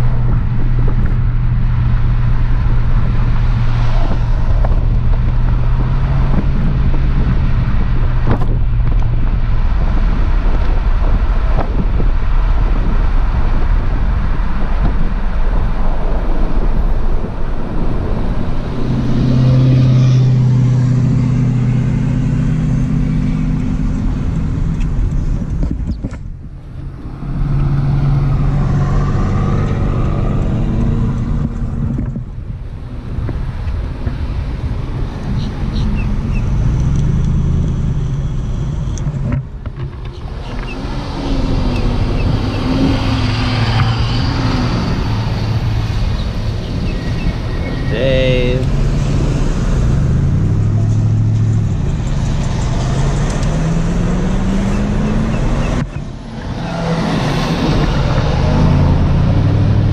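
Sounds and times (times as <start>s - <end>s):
engine hum: 0.0s - 59.9s
road and wind noise: 0.0s - 59.9s.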